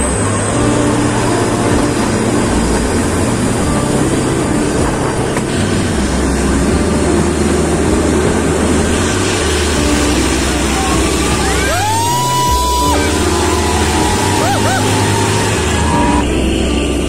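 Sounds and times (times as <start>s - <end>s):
train rumbling and rattling on track: 0.0s - 17.0s.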